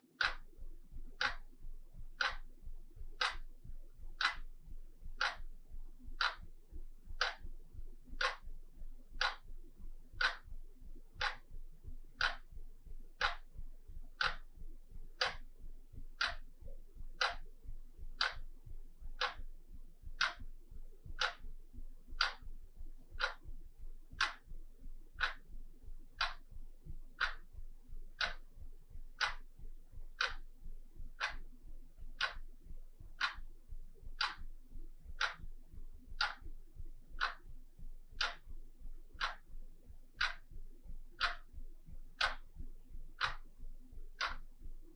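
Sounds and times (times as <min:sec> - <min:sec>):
wall clock ticking: 0:00.0 - 0:44.9.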